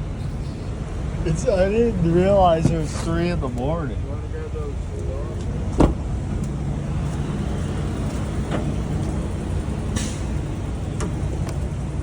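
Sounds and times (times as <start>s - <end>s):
heavy vehicle engines idling: 0.0s - 12.0s.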